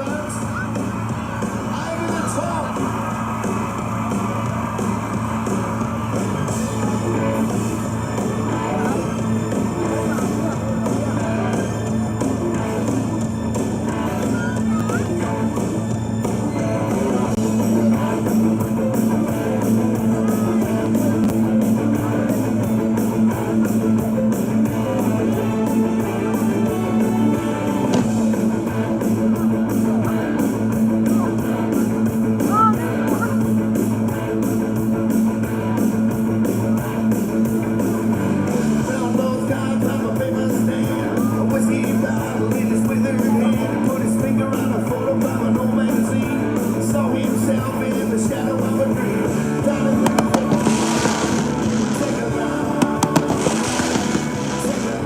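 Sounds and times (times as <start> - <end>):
rock music: 0.0 - 55.0.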